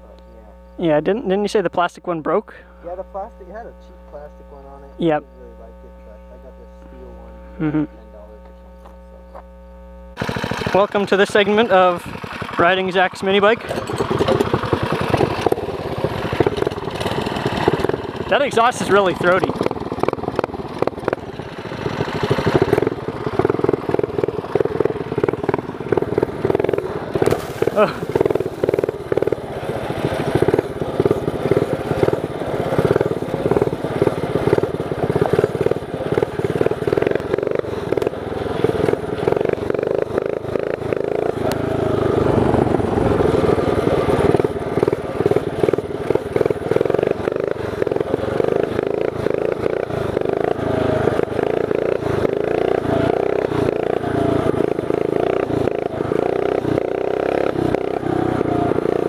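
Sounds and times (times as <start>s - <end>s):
mini bike engine revving under load: 10.2s - 59.0s.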